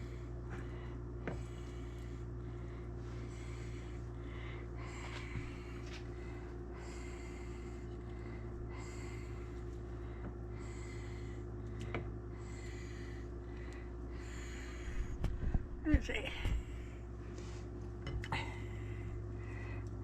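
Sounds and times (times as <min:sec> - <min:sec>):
person breathing close to microphone: 0:00.0 - 0:20.0
steady low hum: 0:00.0 - 0:20.0.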